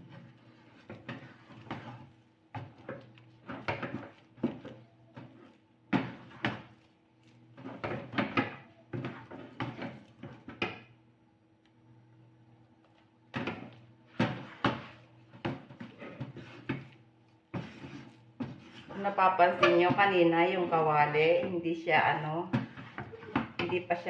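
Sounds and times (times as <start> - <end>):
spatula scraping in a wok: 0.0 - 10.9, 13.3 - 24.0.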